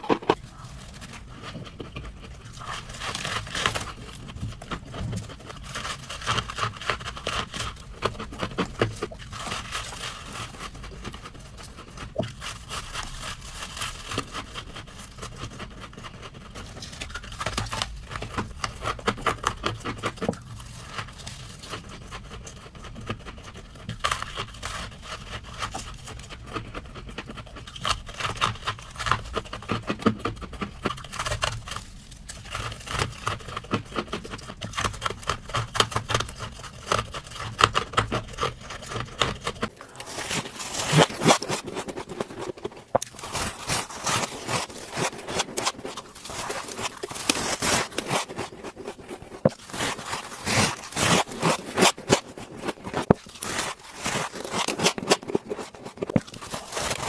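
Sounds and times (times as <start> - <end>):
frost being scraped and crunched: 0.0 - 57.0.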